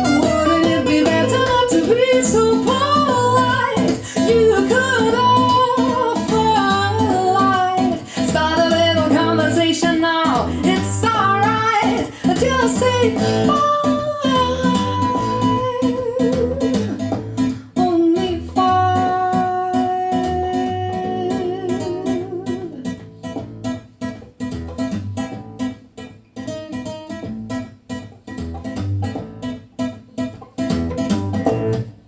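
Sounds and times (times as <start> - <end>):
plucked acoustic guitar: 0.0 - 32.0.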